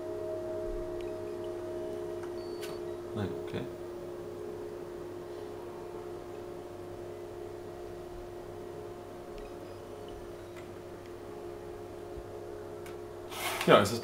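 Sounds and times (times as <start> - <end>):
faint electrical hum: 0.0 - 14.0
steady tones: 0.0 - 14.0.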